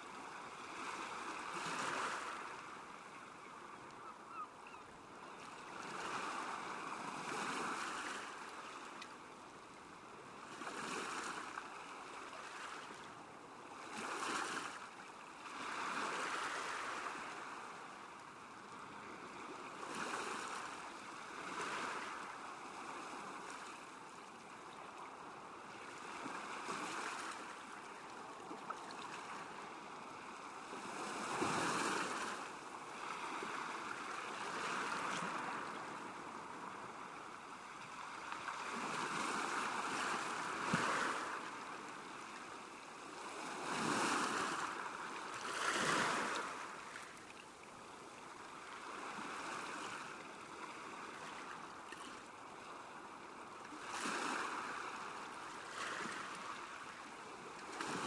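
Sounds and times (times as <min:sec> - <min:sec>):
small waves lapping: 0:00.1 - 0:58.0.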